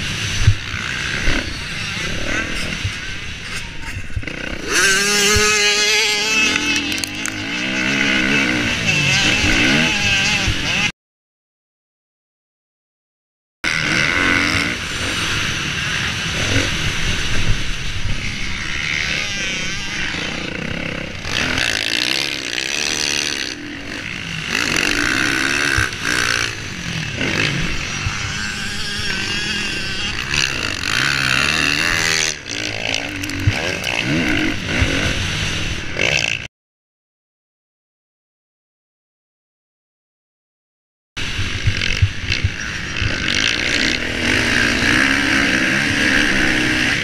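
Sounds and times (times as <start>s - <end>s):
motorcycle engine revving: 0.0s - 10.9s, 13.6s - 36.5s, 41.2s - 47.0s.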